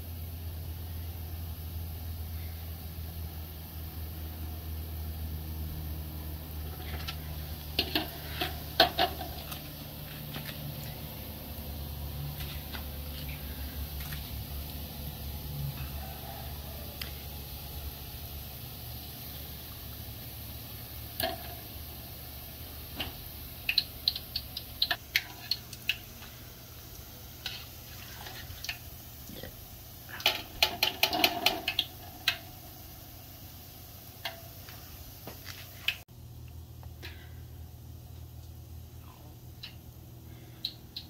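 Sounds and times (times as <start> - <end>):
batter frying in hot oil: 0.0 - 41.0
low steady hum: 0.0 - 41.0.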